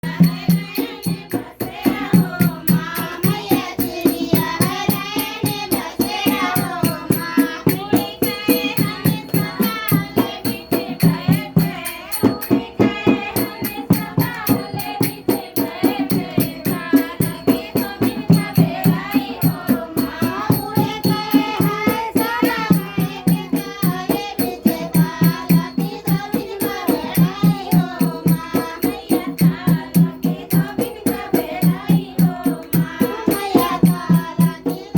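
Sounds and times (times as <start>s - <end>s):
devotional folk singing: 0.0s - 34.9s
dholak drum beating: 0.0s - 34.9s.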